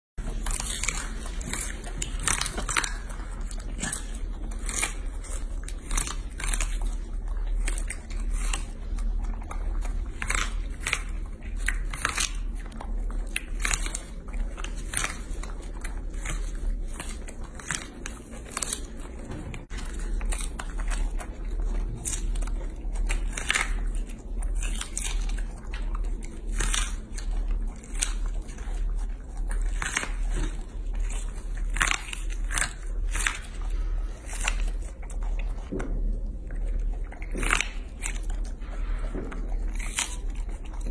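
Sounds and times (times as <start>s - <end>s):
monkeys chewing corn: 0.2s - 40.9s.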